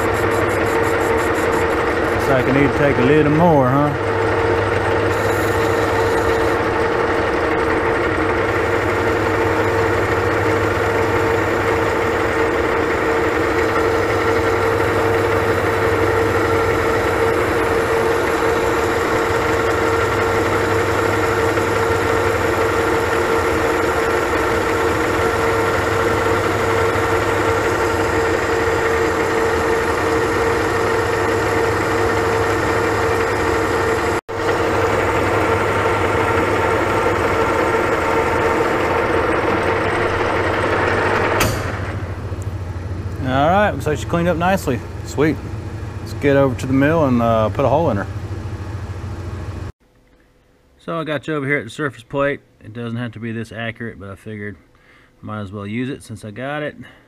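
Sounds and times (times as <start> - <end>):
cutting tool turning metal: 0.0 - 47.9
metal lathe humming: 0.0 - 49.7.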